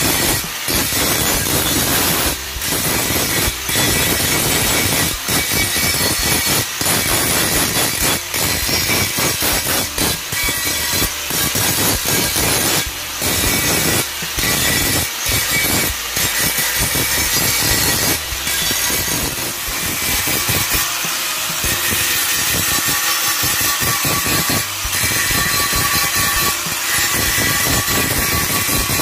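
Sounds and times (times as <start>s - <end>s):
angle grinder grinding metal: 0.0s - 29.0s.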